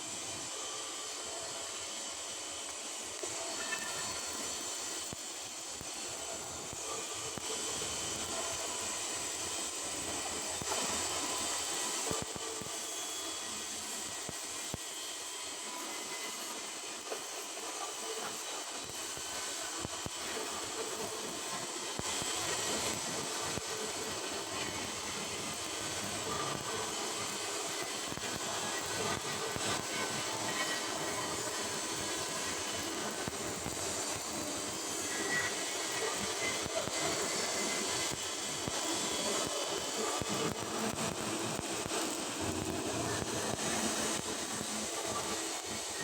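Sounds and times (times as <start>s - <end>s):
welding arc crackling and hissing: 0.0s - 46.0s.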